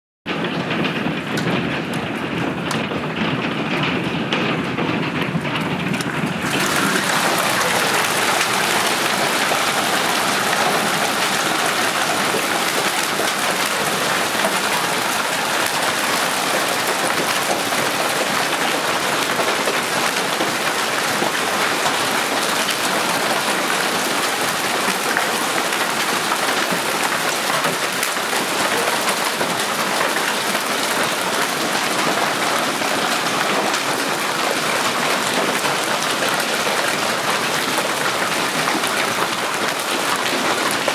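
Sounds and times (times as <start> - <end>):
hail clattering: 0.3 - 40.9.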